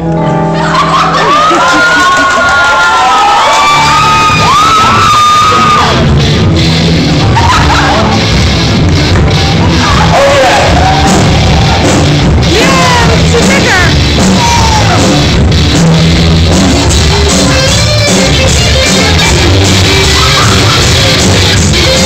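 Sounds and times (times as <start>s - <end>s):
bass guitar: 0.0s - 1.6s, 3.0s - 22.0s
electric guitar: 0.0s - 22.0s
drum kit: 4.0s - 22.0s.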